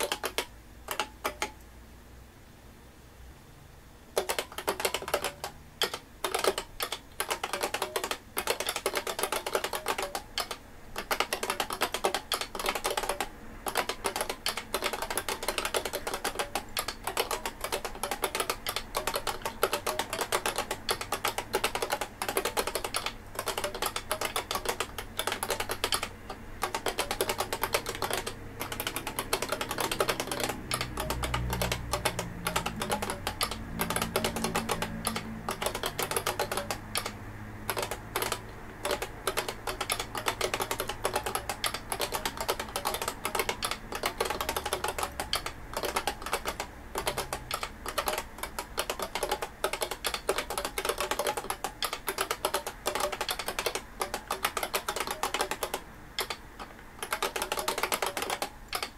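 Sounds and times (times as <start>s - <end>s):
keyboard keys clacking: 0.0s - 1.6s, 4.2s - 58.9s.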